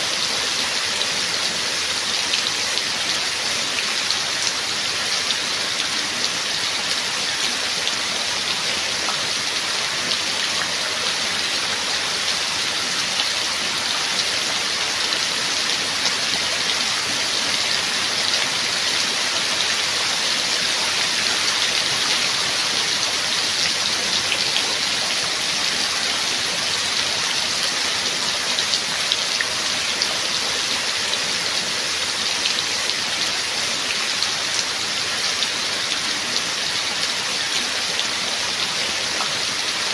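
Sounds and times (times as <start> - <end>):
steady rain falling: 0.0 - 39.9
raindrops pattering on a surface: 0.1 - 39.9.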